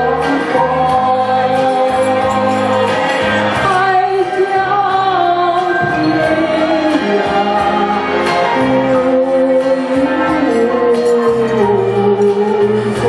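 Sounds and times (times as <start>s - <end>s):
karaoke backing track: 0.0s - 13.0s
woman singing a slow ballad: 0.0s - 13.0s.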